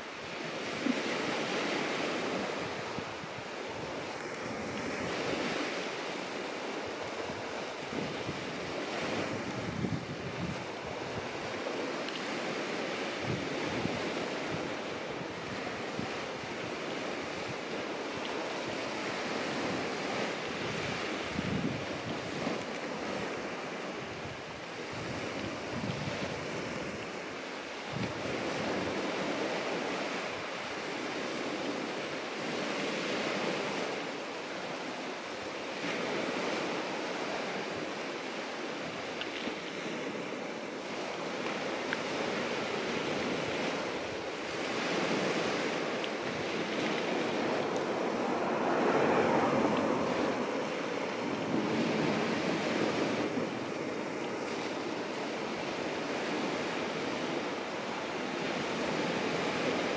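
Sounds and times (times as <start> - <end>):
surf washing onto beach: 0.0 - 59.9.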